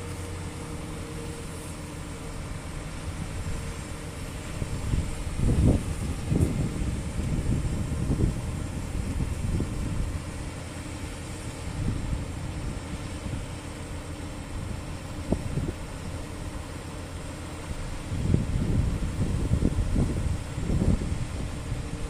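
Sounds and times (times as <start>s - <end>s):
diesel engine running at low revs: 0.0s - 22.0s.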